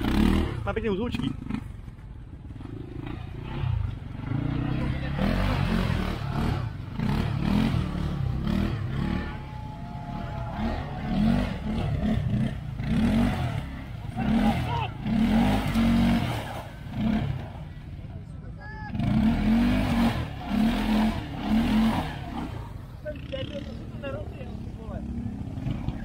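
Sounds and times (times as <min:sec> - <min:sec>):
quad bike engine revving: 0:00.0 - 0:18.0, 0:18.9 - 0:26.0.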